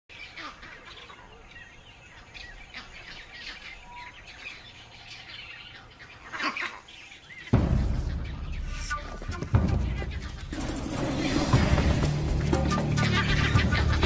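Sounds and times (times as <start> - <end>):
bird chirps and calls: 0.1 - 14.0.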